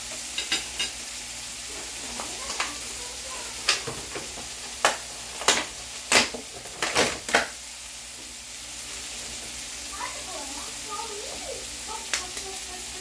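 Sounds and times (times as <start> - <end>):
tomatoes sizzling in a pan: 0.0 - 13.0.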